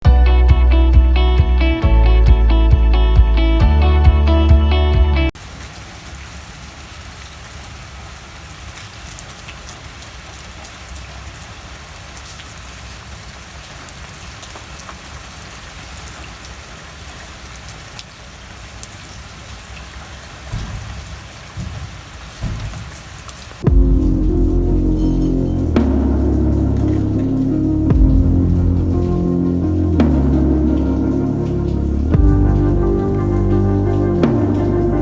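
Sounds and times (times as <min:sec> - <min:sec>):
sharp raindrop ticks: 0:05.4 - 0:35.0
steady rain falling: 0:05.4 - 0:35.0.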